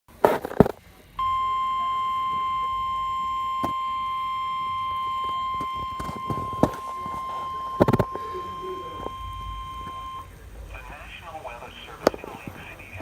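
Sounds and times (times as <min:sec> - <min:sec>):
steady alert warning beep: 0:01.2 - 0:13.0.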